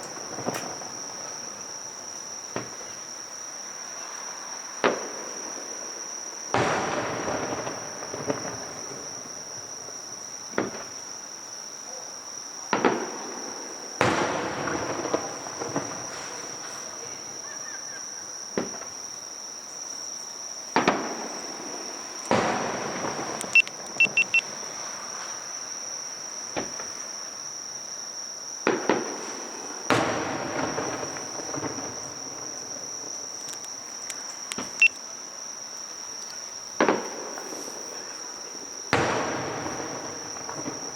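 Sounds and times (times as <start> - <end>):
fireworks bursting: 0.0 - 11.2, 12.7 - 17.5, 20.6 - 27.3, 28.6 - 35.0, 36.4 - 40.9
firework crackles: 0.0 - 11.4, 12.7 - 17.5, 20.6 - 27.7, 28.6 - 35.1, 35.8 - 40.9
insect drone: 0.0 - 40.9.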